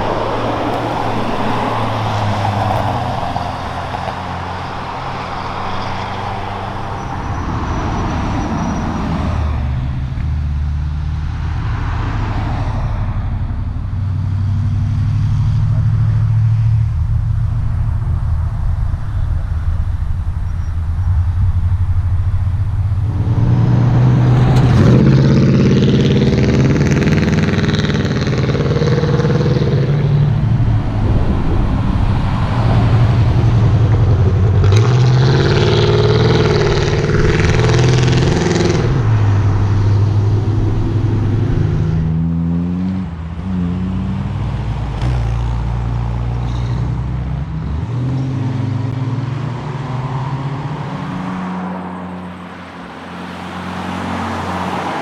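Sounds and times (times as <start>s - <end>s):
car engine revving through gears: 0.0s - 12.6s, 22.2s - 55.0s.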